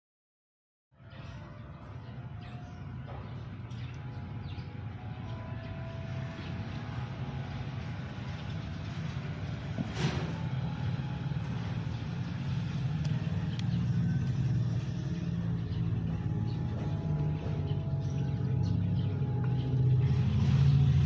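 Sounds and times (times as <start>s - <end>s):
low motor hum: 1.0s - 21.0s.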